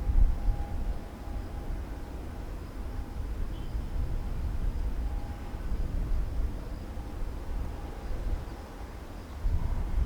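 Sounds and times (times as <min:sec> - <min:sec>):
faint steady tone: 0:00.0 - 0:10.0
wind buffeting microphone: 0:00.0 - 0:10.0.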